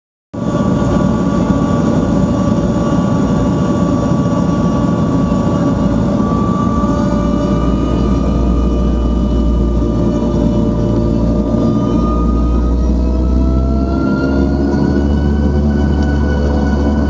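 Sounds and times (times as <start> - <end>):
turboprop engines droning: 0.4 - 17.0.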